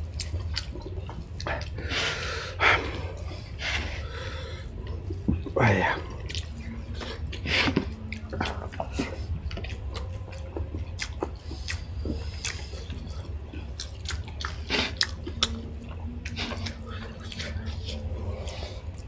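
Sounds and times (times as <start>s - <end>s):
chewing and biting food: 0.0s - 19.0s
low steady hum: 0.0s - 19.0s.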